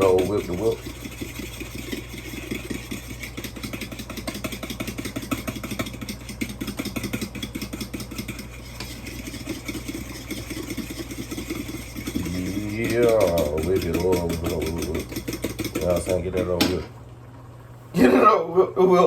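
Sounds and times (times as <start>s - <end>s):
whisk clattering in a bowl: 0.0s - 16.8s.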